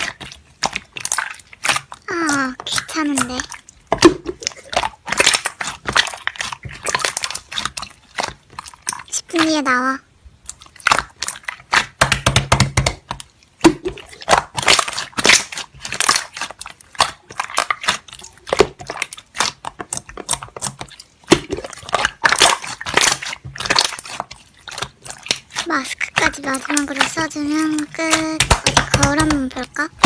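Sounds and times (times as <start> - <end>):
slime crackling and squishing: 0.0 - 30.0.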